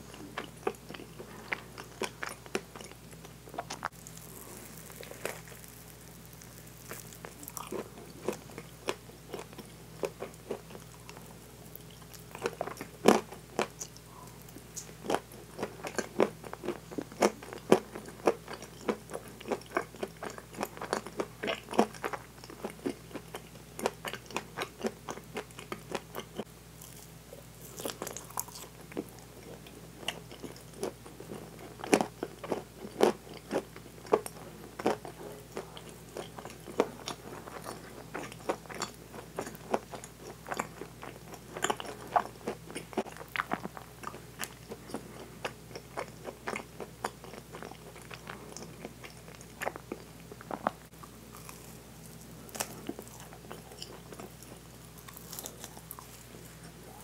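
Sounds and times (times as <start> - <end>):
chewing bread with mouth smacks: 0.1 - 57.0.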